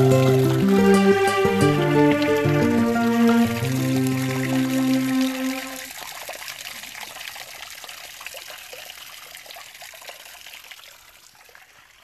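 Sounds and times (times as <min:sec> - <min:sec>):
small waterfall splashing: 0:00.0 - 0:12.0.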